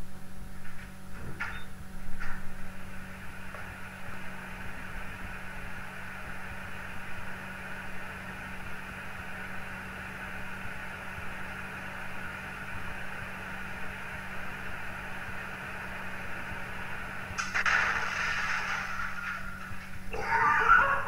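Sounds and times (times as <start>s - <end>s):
microwave oven humming: 0.0s - 21.0s.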